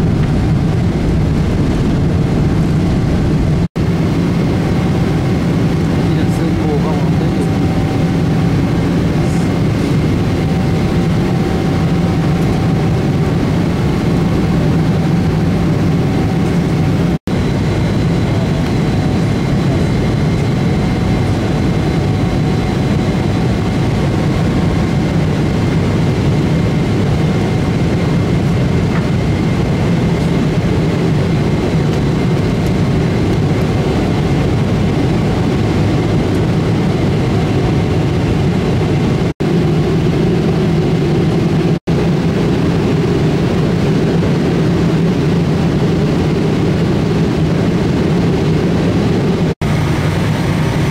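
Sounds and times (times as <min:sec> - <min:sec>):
jet engines and airflow rumble: 0:00.0 - 0:50.9.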